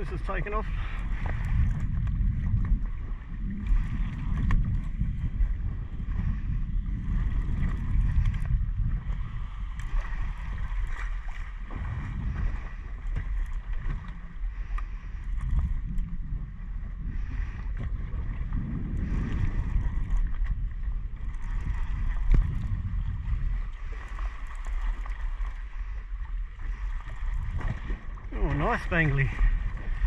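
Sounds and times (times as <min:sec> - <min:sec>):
water slapping boat hull: 0:00.0 - 0:30.0
wind buffeting microphone: 0:00.0 - 0:30.0.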